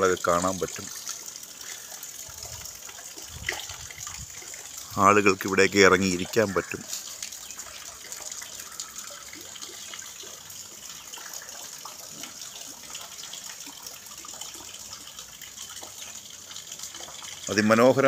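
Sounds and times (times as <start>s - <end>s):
water splashing into pond: 0.0s - 18.0s.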